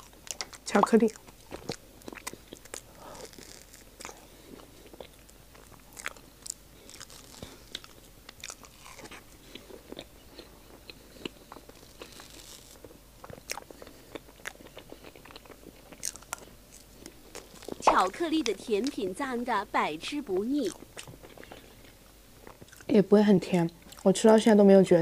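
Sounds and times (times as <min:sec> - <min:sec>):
chewing and lip smacks: 0:00.0 - 0:19.1, 0:20.6 - 0:22.9, 0:23.8 - 0:24.1.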